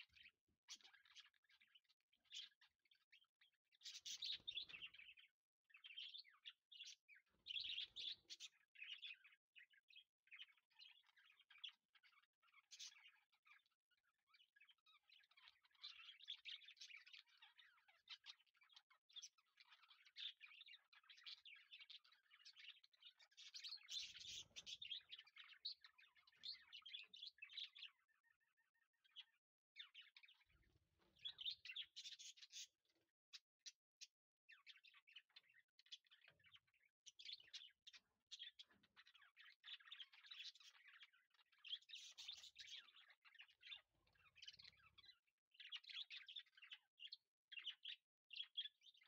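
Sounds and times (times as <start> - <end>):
faint birds chirping: 0.0 - 49.0.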